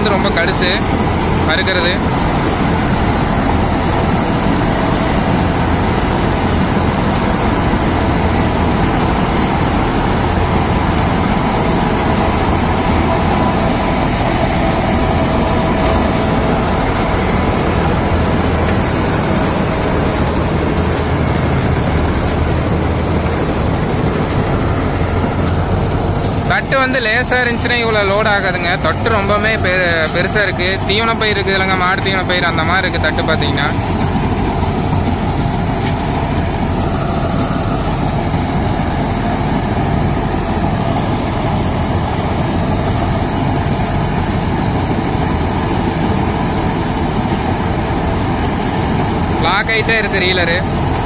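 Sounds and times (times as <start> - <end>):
combine harvester cutting corn stalks: 0.0 - 51.0
tractor engine under heavy load: 0.0 - 51.0.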